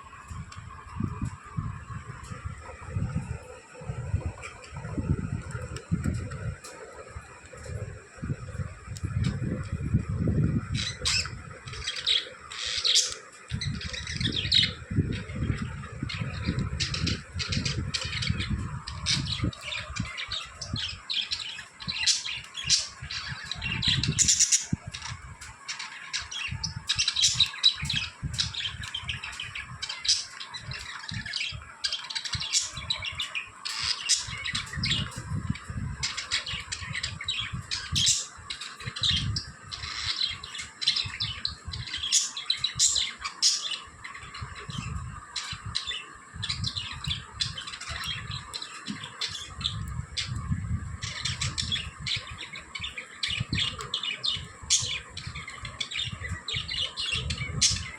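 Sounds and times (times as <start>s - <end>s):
budgerigars chirping: 10.7s - 57.9s.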